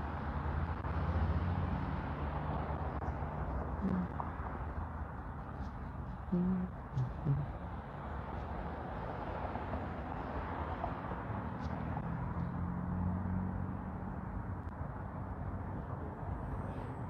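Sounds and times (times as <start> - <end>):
passing vehicle engine hum: 0.0 - 17.0
street traffic noise: 0.0 - 17.0.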